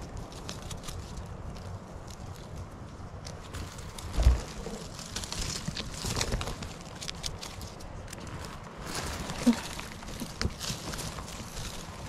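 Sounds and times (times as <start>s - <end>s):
low rumble of wind on microphone: 0.0s - 12.0s.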